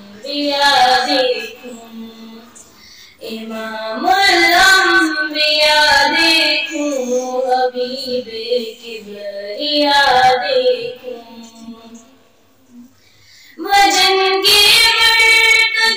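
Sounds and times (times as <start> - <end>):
girl singing into a microphone: 0.0 - 12.2, 13.6 - 15.9.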